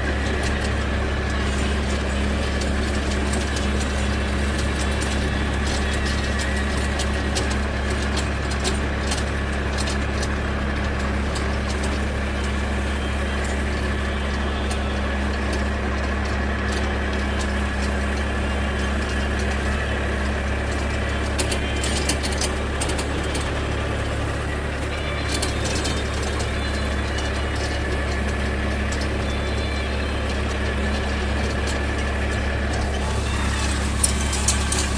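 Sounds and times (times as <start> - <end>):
tractor diesel engine running: 0.0 - 34.9
light rattles and clicks: 0.1 - 34.9.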